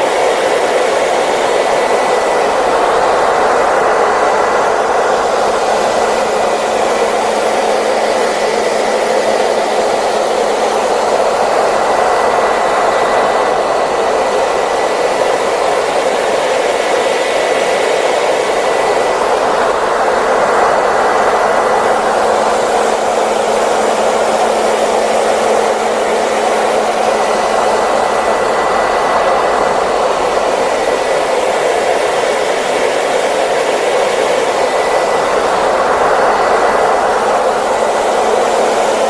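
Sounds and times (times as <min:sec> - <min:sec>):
hair dryer blowing: 0:00.0 - 0:39.0.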